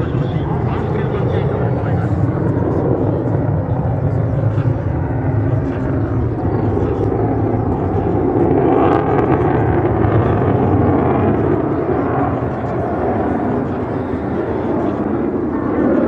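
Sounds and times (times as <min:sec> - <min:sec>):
jet flying overhead: 0:00.0 - 0:16.0.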